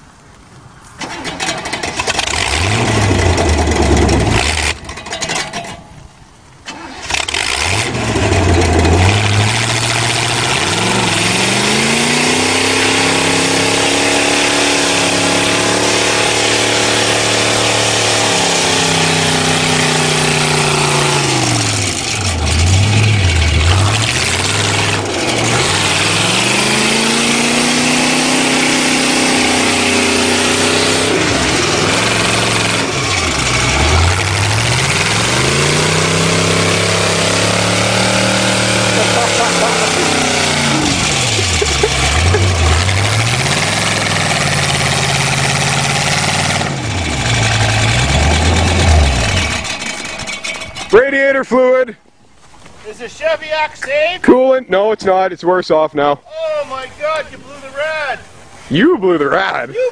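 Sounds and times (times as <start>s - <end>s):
car engine revving: 1.0s - 5.0s, 6.7s - 51.0s.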